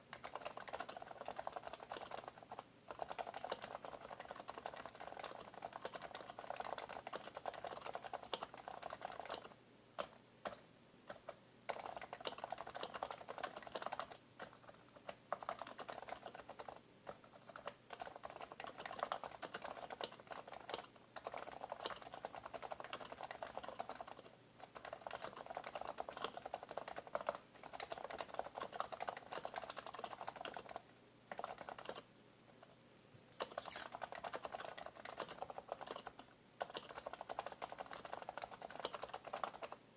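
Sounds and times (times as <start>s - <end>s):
fast typing on keyboard: 0.0s - 32.7s, 33.4s - 39.8s.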